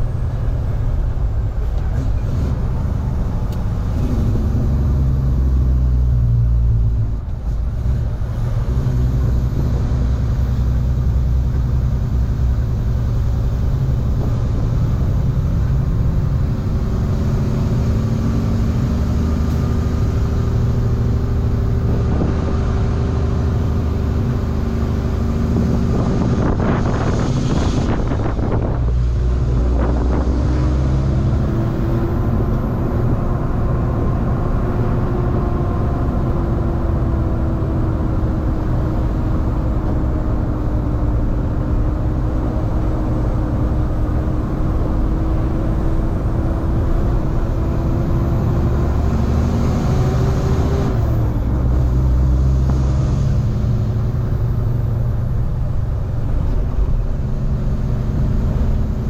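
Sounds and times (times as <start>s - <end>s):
road noise: 0.0s - 59.0s
truck diesel engine droning: 0.0s - 59.0s.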